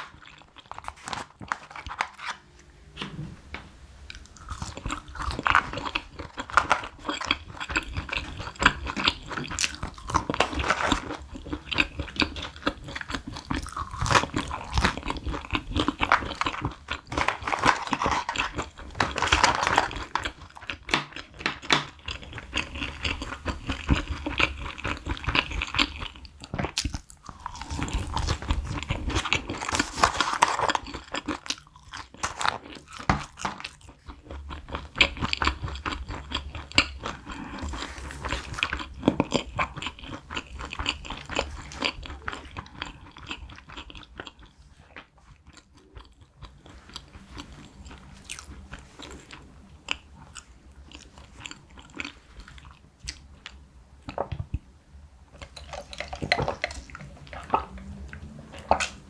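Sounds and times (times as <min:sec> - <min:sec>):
chewing crunchy fries: 0:00.0 - 0:02.4, 0:04.1 - 0:54.7, 0:55.3 - 0:59.0.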